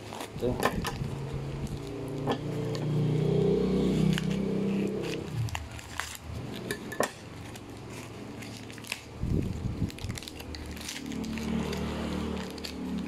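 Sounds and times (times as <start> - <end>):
plastic bag crinkling: 0.0 - 2.7, 3.9 - 13.0
packaging rustle: 0.0 - 2.8, 3.9 - 13.0
cardboard and plastic packaging handled: 0.0 - 2.9, 4.0 - 13.0.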